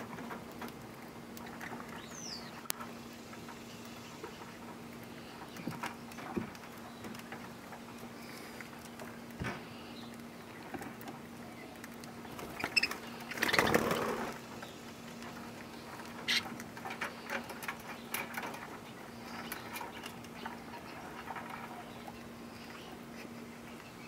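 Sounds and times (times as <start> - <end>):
birds pecking seed clicks: 0.0 - 23.1
birds flapping and rustling: 0.0 - 24.0.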